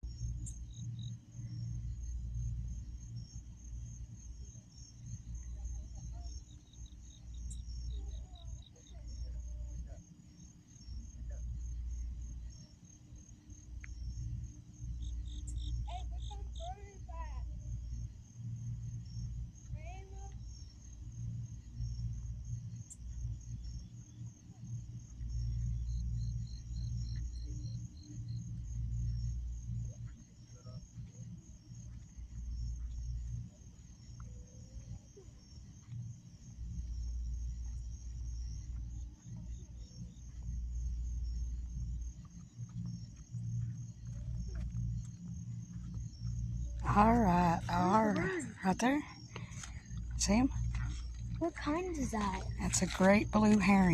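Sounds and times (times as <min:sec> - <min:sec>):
crickets trilling: 0:00.0 - 0:53.9
insects chirping: 0:00.0 - 0:53.9
low steady rumble: 0:00.0 - 0:53.9
lower insect chirping: 0:00.0 - 0:53.9.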